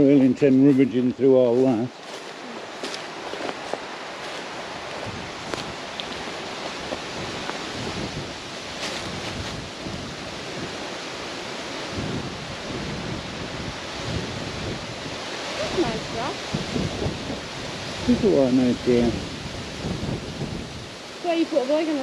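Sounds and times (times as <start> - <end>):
wind buffeting microphone: 0.0 - 22.0
wind rushing through trees: 0.0 - 22.0.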